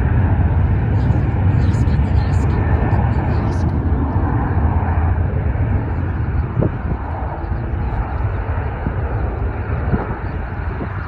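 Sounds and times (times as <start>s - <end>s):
jet airliner rumble: 0.0s - 11.0s.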